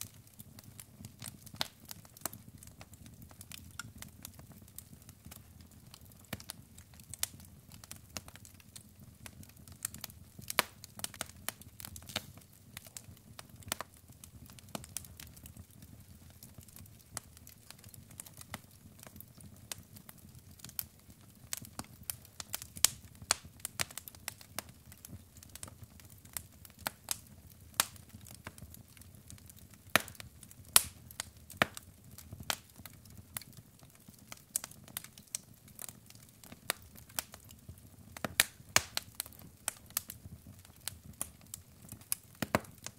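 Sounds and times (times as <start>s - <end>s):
logs crackling in fireplace: 0.0s - 42.9s.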